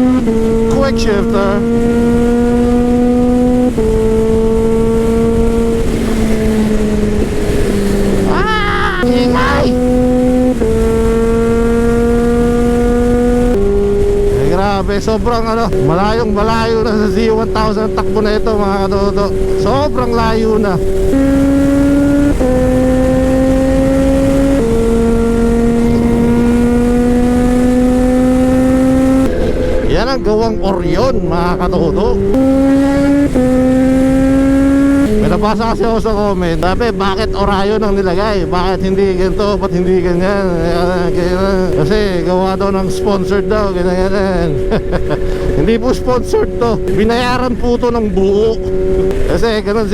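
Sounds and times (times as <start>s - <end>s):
motorcycle engine running hard: 0.0s - 49.9s
quick-shifted upshifts: 0.0s - 49.9s
rush of wind: 0.0s - 49.9s.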